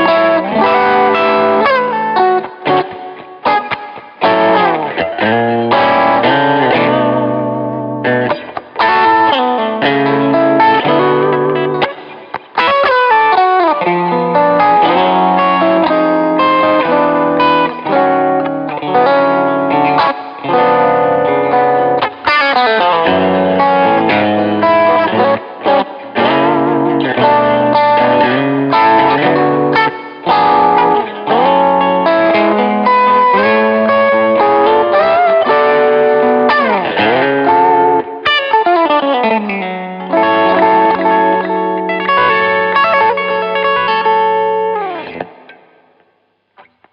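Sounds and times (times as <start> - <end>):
distorted electric guitar lead: 0.0 - 46.9.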